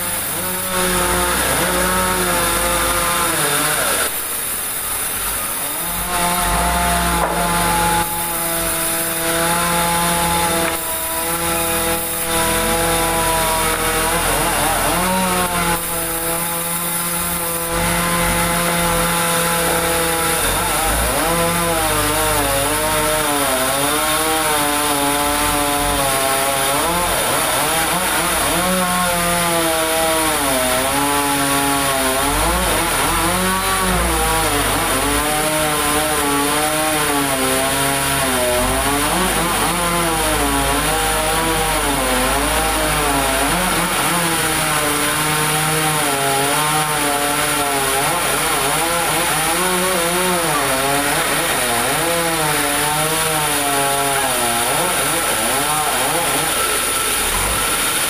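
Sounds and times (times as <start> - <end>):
band sawmill humming: 0.0 - 58.0.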